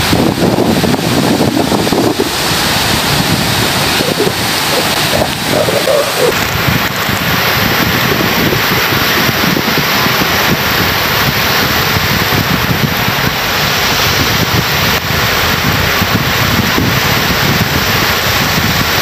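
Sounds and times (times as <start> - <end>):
surf breaking on sandy shore: 0.0 - 19.0
wind buffeting microphone: 0.0 - 19.0.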